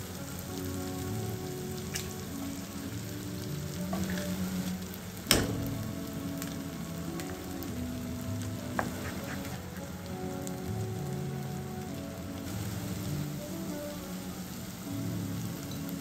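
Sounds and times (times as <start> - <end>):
food sizzling in a pot: 0.0 - 16.0
soft background music: 0.0 - 16.0.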